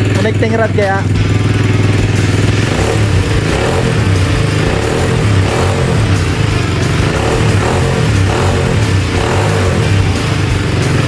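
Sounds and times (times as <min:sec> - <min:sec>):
engine running unevenly: 0:00.0 - 0:11.0.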